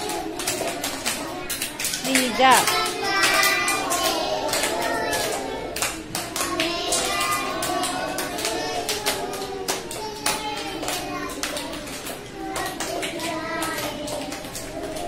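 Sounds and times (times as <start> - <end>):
children and adults singing: 0.0 - 15.0
people clapping: 0.0 - 15.0.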